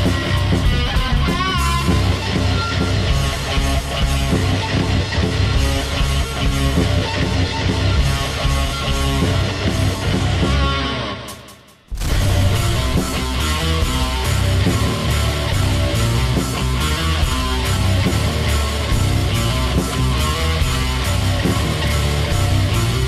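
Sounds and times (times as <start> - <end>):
rock music with electric guitar: 0.0 - 23.0.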